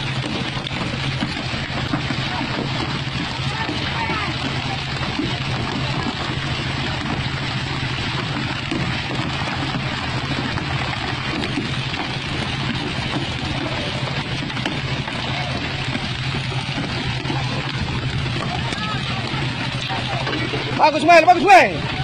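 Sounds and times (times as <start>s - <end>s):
boat engine humming: 0.0s - 22.0s
water rushing along hull: 0.0s - 22.0s.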